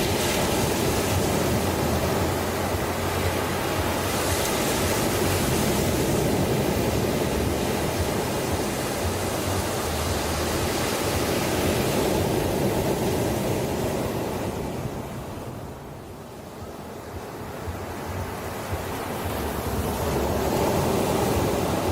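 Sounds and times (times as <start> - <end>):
ocean waves breaking: 0.0 - 21.9.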